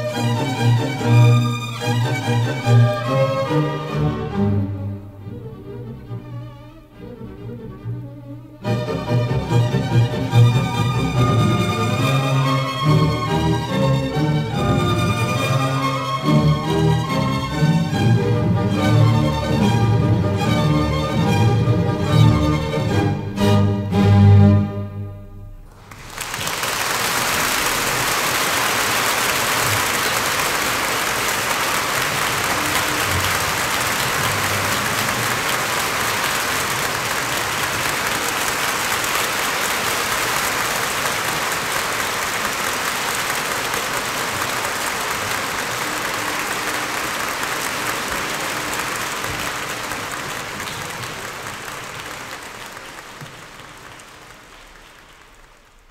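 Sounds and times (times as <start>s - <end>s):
audience applause: 0.0s - 4.8s, 8.6s - 22.9s, 25.6s - 55.9s.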